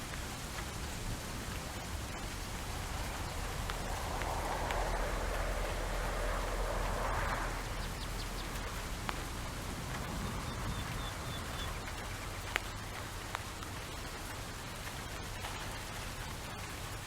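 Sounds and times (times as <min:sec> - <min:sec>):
rain drop ticks: 0:00.0 - 0:17.0
steady rain falling: 0:00.0 - 0:17.0.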